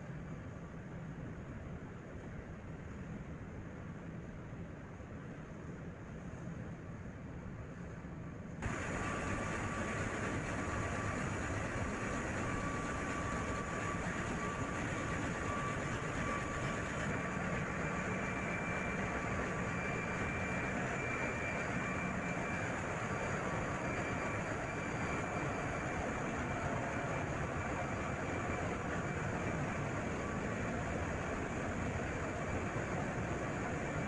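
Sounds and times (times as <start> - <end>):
faint high whine: 0.0 - 34.0.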